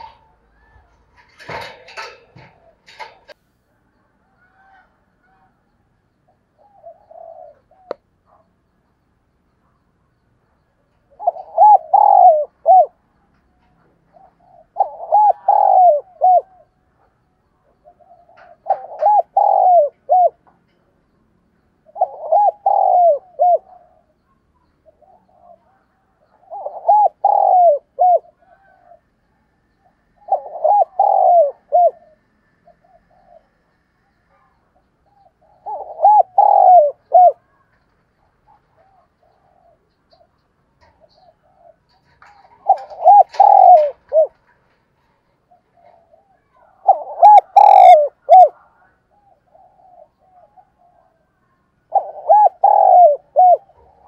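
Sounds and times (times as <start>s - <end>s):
dove cooing: 0.0s - 3.4s, 6.5s - 8.5s, 10.5s - 20.5s, 21.8s - 54.0s.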